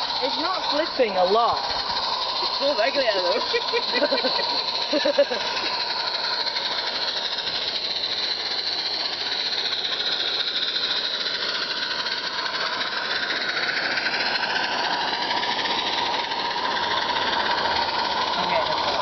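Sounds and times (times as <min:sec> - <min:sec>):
steam locomotive hissing: 0:00.0 - 0:19.0
train wagons rolling on track: 0:00.0 - 0:19.0.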